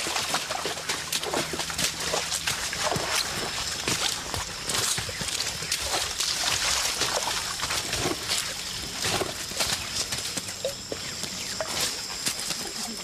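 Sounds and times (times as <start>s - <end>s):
footsteps on forest floor: 0.0s - 13.0s
high insect drone: 0.0s - 13.0s.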